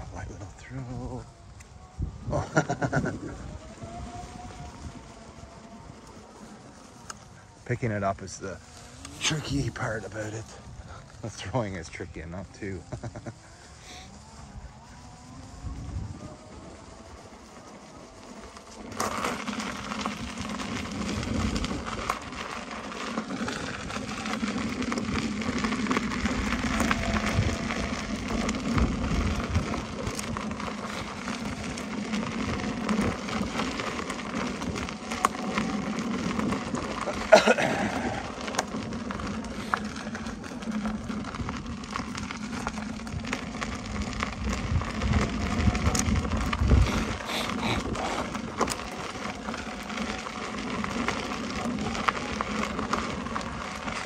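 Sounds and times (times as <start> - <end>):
wind buffeting microphone: 0.0 - 6.8, 7.5 - 17.4, 19.1 - 50.1
tyre crunching on gravel: 2.2 - 54.0.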